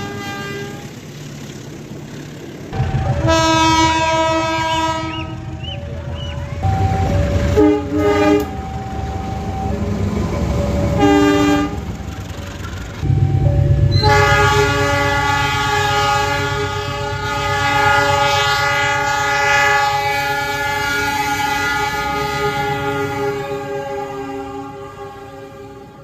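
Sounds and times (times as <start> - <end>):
locomotive air horn blasts: 0.0 - 1.0, 3.0 - 9.6, 10.9 - 12.0, 13.0 - 26.0
rumble of passing train: 0.0 - 26.0.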